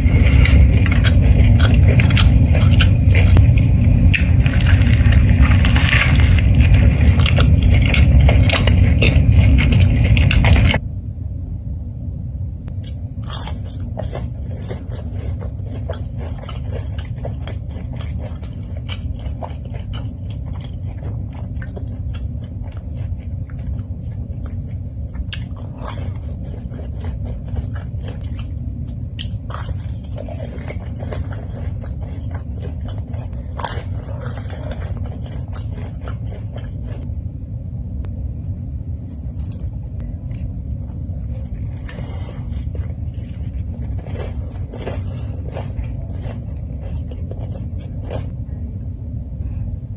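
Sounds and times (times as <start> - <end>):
chewing and crunching food: 0.0 - 10.8, 12.7 - 37.3, 38.0 - 49.8
steady low hum: 0.0 - 49.9.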